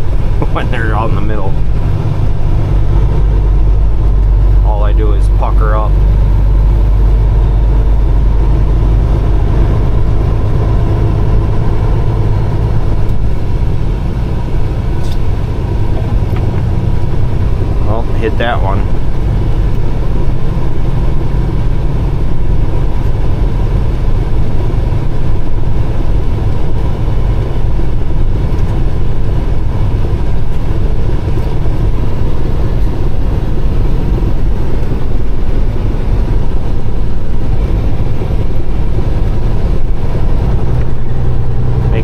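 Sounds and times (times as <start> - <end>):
road noise: 0.0 - 42.0
truck diesel engine droning: 0.0 - 42.0.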